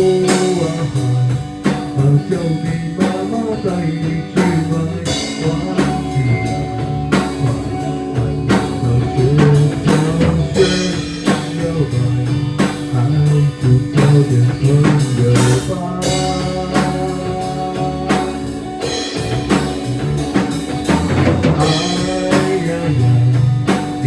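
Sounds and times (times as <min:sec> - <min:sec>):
instrumental rock band: 0:00.0 - 0:24.0.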